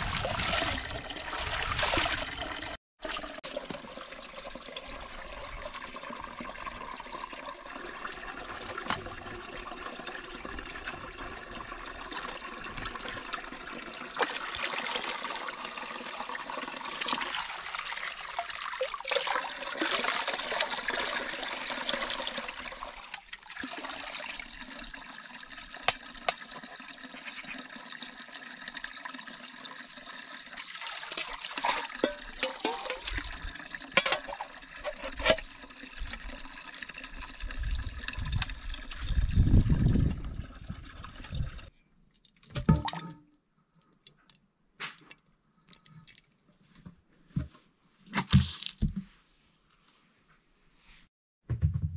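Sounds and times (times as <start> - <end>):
water pouring from a pipe: 0.0 - 43.2.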